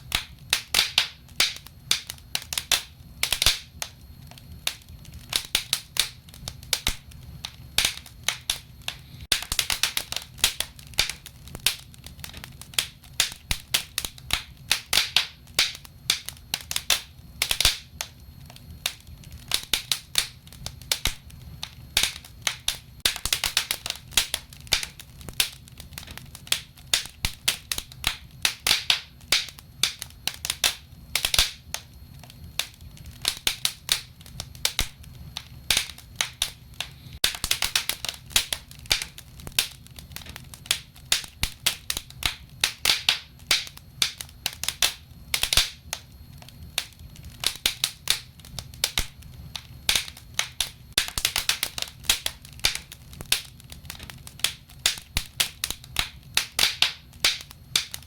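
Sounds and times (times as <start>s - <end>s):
low rumble of flames: 0.0s - 58.0s
logs crackling and popping: 0.1s - 58.0s.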